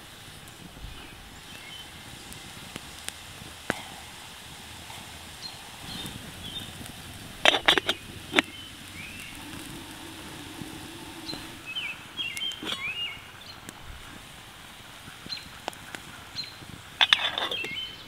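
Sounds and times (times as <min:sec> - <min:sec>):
campfire crackling: 0:00.0 - 0:18.0
small birds chirping: 0:00.0 - 0:18.0.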